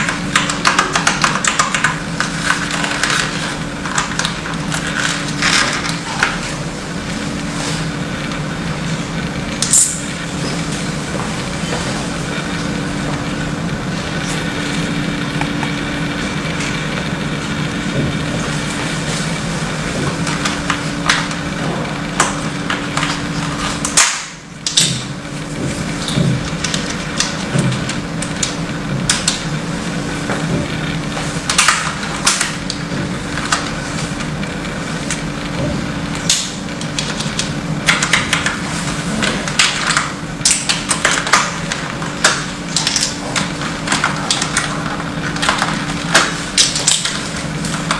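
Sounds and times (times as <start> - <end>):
steady background hum: 0.0 - 47.9.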